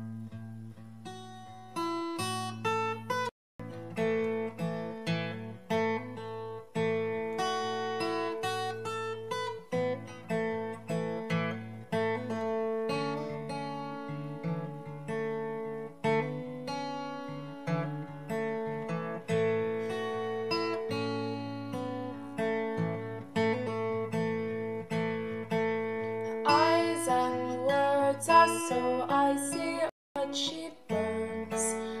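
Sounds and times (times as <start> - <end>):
acoustic guitar picking: 0.0 - 32.0.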